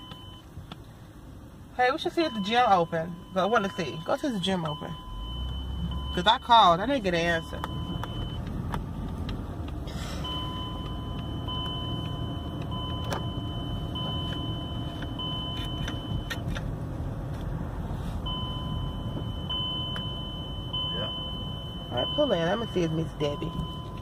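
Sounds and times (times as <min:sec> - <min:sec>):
car warning chime beeps: 0:00.0 - 0:00.5, 0:01.8 - 0:08.5, 0:10.1 - 0:16.5, 0:18.2 - 0:24.0
car road noise: 0:00.0 - 0:24.0.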